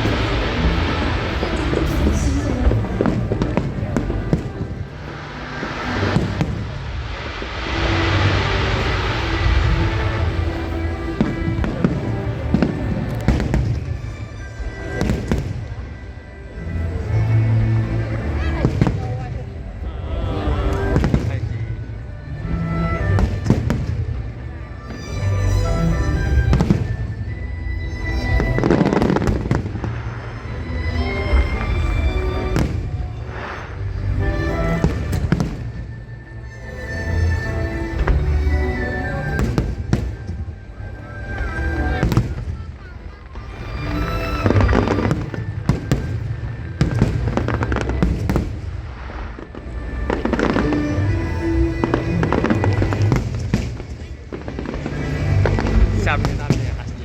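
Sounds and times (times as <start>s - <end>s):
fireworks bursting: 0.0s - 16.2s, 16.9s - 57.0s
fireworks crackling: 0.0s - 57.0s
music playing: 0.0s - 57.0s.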